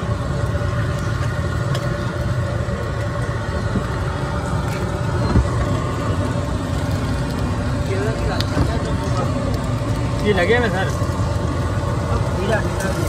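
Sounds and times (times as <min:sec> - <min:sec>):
egg frying on griddle: 0:00.0 - 0:13.0
steady low rumble: 0:00.0 - 0:13.0.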